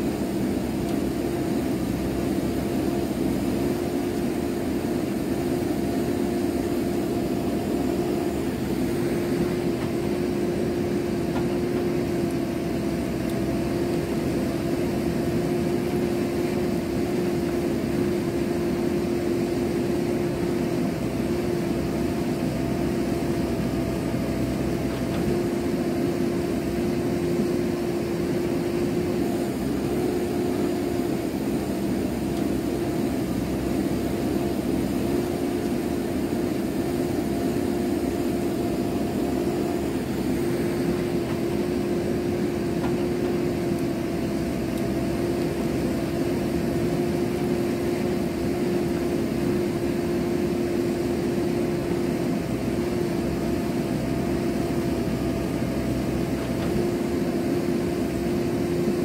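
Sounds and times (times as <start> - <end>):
backhoe diesel engine droning: 0.0 - 59.0.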